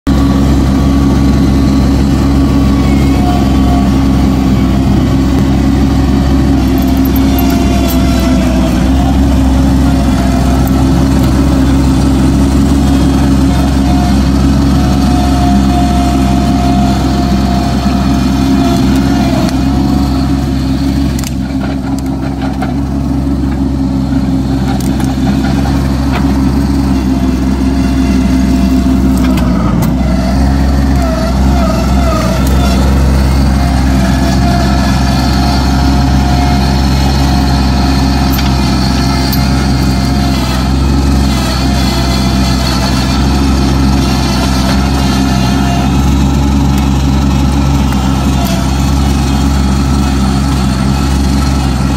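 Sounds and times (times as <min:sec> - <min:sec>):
diesel engine under load: 0:00.1 - 0:51.9.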